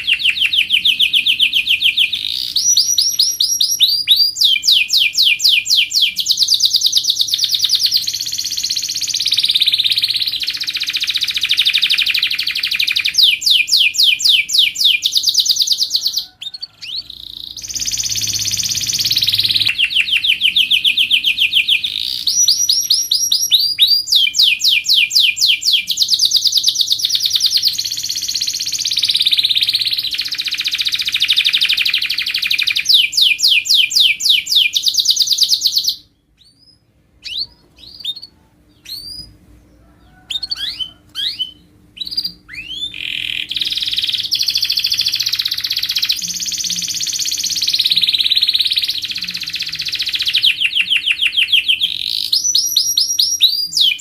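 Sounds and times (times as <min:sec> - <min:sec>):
canary singing trilled phrases: 0:00.0 - 0:54.0.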